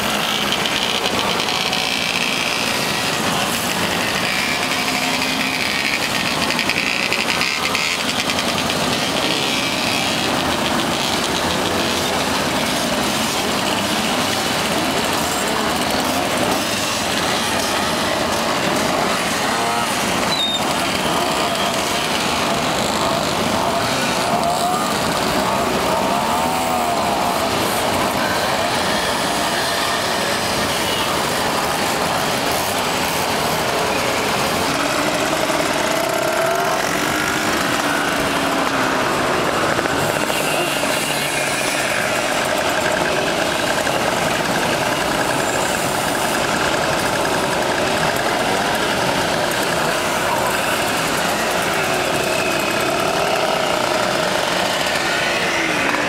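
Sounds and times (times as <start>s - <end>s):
moped engines buzzing past: 0.0s - 56.0s.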